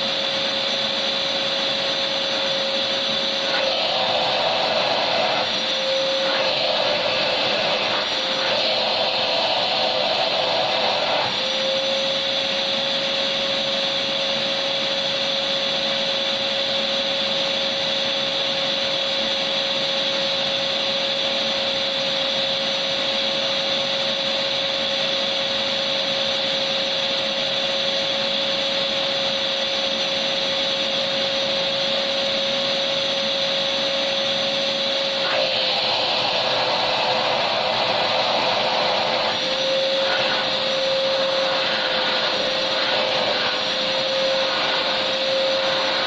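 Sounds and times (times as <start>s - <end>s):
vacuum cleaner motor running: 0.0s - 46.0s.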